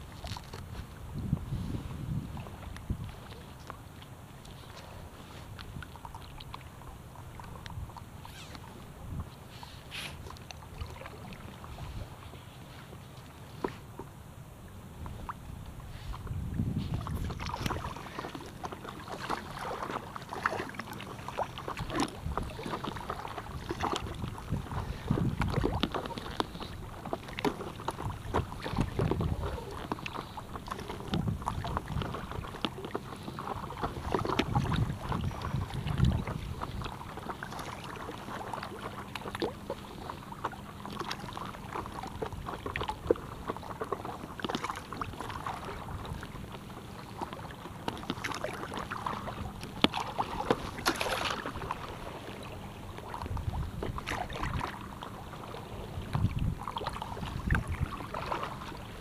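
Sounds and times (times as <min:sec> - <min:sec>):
paddle splashing in water: 0:00.0 - 0:59.0.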